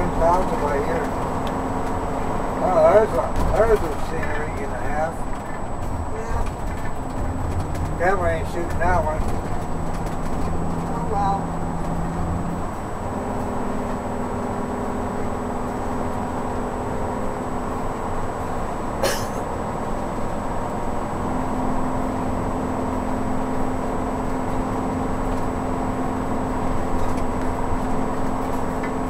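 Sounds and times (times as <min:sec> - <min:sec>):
engine and road noise: 0:00.0 - 0:29.0.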